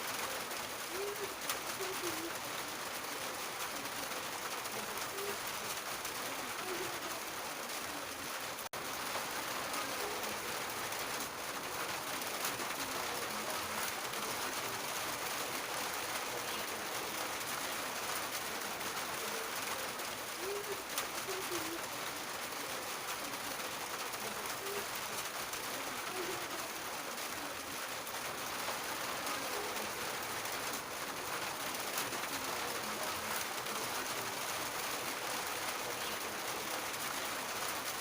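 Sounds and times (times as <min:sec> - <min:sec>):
rain falling on a roof: 0:00.0 - 0:38.0.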